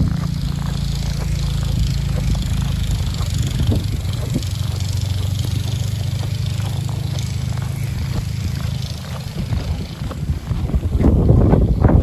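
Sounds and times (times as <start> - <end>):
footsteps in deep snow: 0.0 - 12.0
wind buffeting microphone: 0.0 - 12.0.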